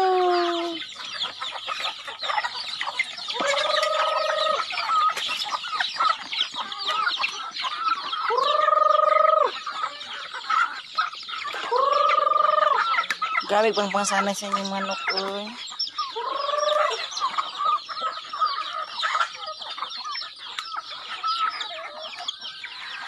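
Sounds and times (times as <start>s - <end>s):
chickens clucking and chirping: 0.0s - 23.0s
long steady chicken calls: 0.0s - 23.0s.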